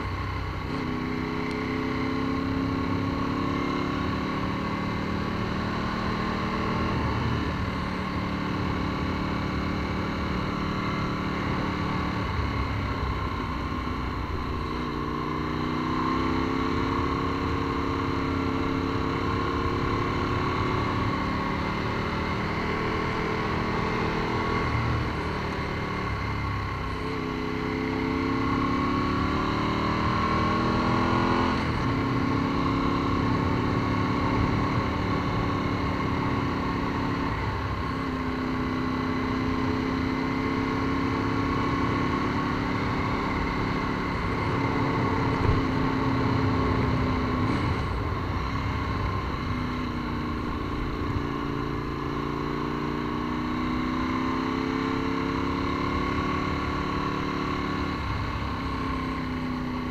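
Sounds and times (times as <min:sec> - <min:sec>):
motorcycle engine accelerating: 0:00.0 - 0:59.9
rushing wind and road noise: 0:00.0 - 0:59.9.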